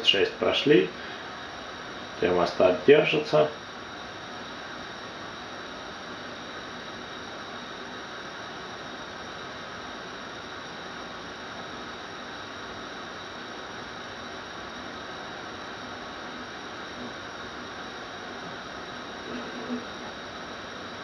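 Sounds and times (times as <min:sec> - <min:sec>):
water heating on gas burner: 0:00.0 - 0:21.0.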